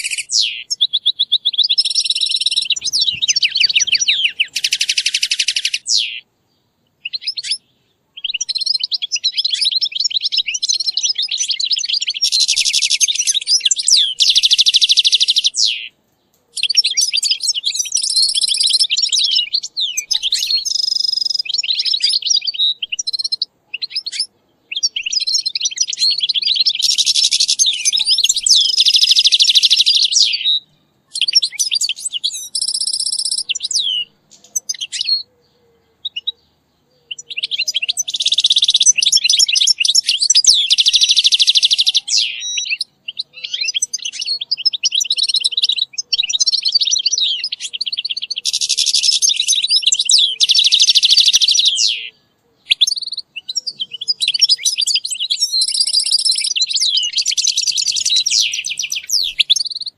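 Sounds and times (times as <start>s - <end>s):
goldfinch song: 0.0s - 59.9s.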